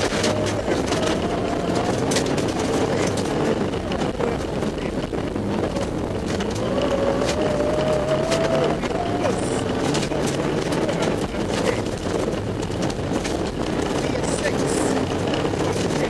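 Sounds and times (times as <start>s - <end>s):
rally car engine at high revs: 0.0s - 16.0s
road noise rush: 0.0s - 16.0s.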